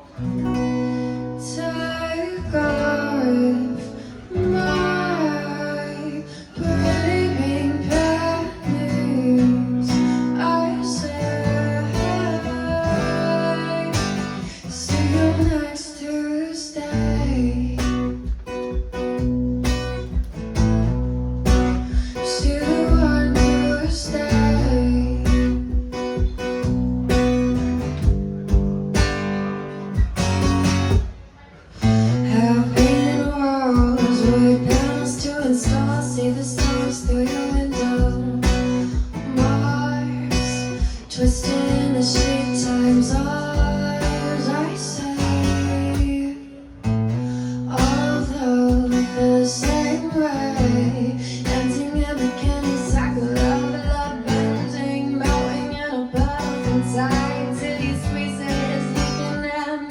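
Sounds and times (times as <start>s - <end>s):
person singing: 0.0s - 18.9s, 21.7s - 26.5s, 31.7s - 46.8s, 47.4s - 59.9s
guitar: 0.0s - 59.9s.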